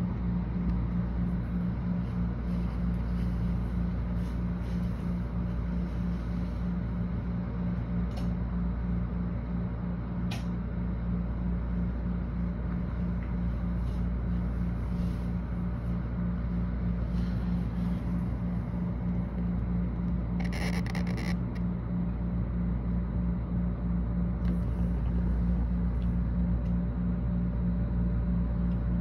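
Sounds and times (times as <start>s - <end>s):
pulsing low hum: 0.0s - 29.0s.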